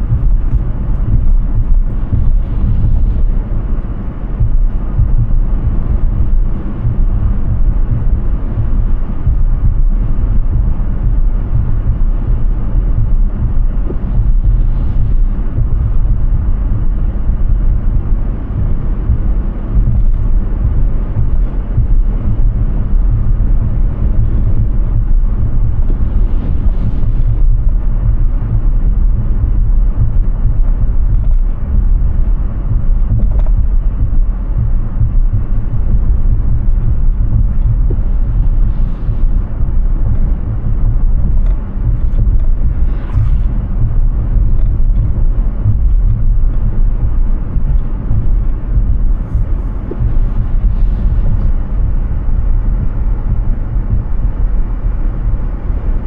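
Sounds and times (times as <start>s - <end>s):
tyre and road noise: 0.0s - 55.7s.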